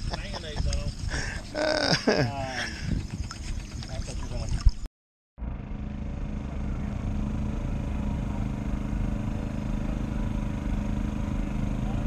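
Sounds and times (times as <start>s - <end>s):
boat engine droning: 0.2s - 4.8s, 5.4s - 12.0s.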